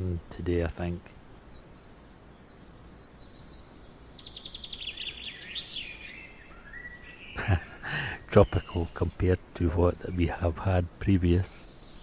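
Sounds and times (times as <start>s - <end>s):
low outdoor hiss: 0.0s - 12.0s
songbird singing: 0.0s - 12.0s.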